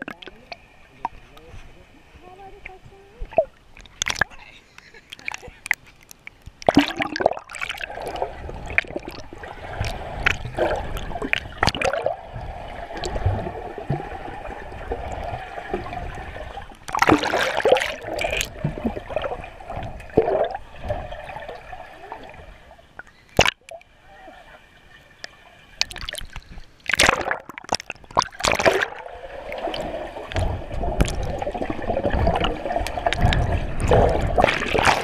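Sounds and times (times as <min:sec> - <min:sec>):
water gurgling and sloshing: 0:00.0 - 0:35.0.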